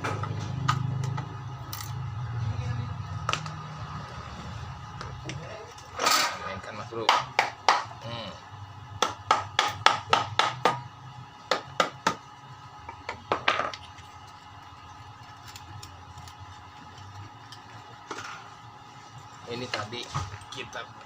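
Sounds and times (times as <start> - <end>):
motor driving fan hum: 0.0 - 21.0.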